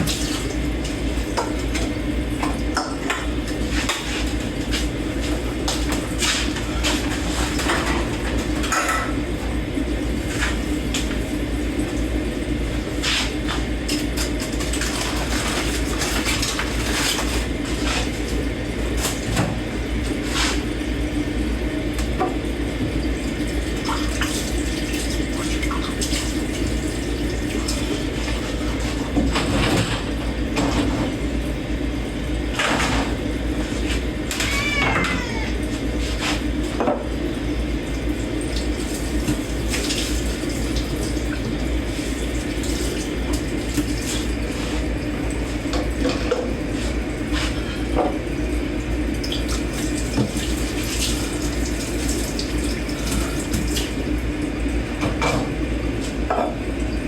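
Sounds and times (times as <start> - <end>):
running tap water: 0.0 - 57.0.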